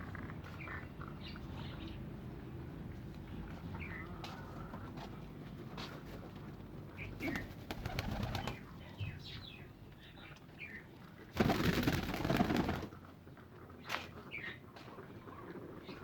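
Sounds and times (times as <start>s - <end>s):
caged birds chirping: 0.0s - 16.0s.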